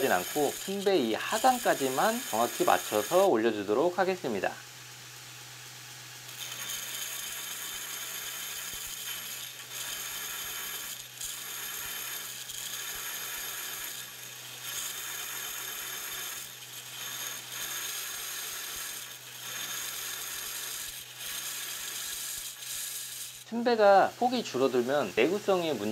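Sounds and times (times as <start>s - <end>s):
belt grinder grinding hiss: 0.0s - 25.9s.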